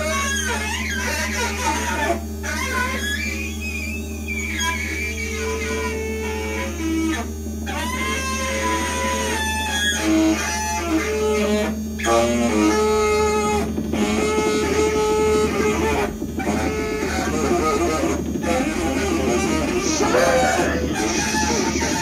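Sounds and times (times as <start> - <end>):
low amplified drone: 0.0 - 22.0
saxophone bending notes: 0.0 - 22.0.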